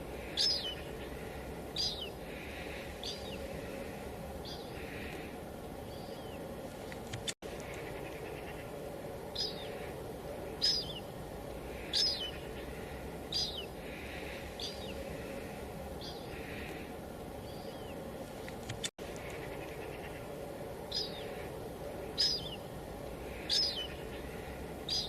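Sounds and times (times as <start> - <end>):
bird chirping: 0.0 - 16.8, 17.4 - 18.1, 18.7 - 25.0.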